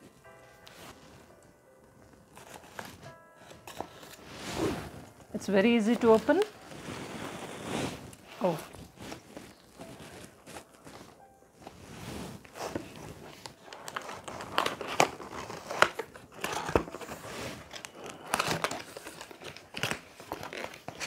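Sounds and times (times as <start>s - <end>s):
packaging crinkling and tearing: 2.0s - 11.8s, 12.4s - 21.0s.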